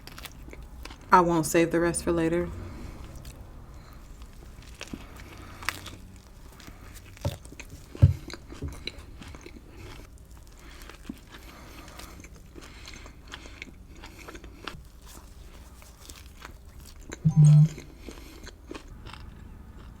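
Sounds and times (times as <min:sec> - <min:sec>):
crunchy chewing: 0:02.9 - 0:17.2, 0:18.0 - 0:20.0.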